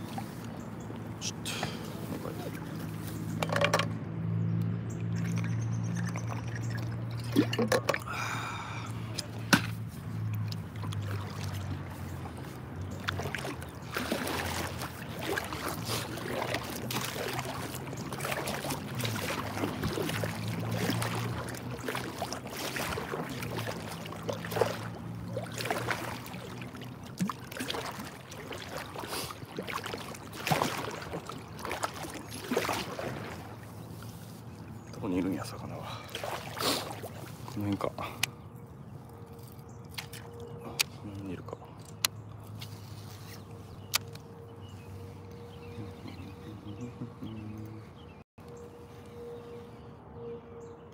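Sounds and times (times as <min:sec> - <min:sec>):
water lapping against boat: 0:00.0 - 0:50.9.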